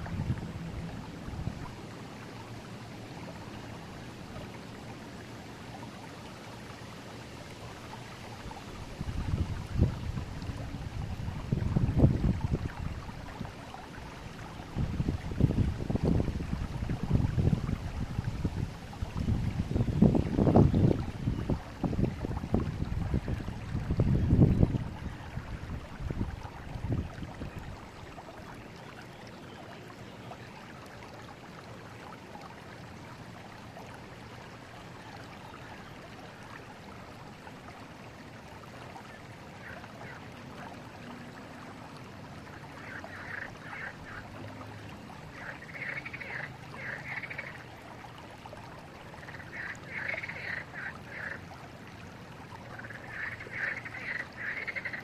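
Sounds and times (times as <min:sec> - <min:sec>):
forest river flowing: 0:00.0 - 0:55.0.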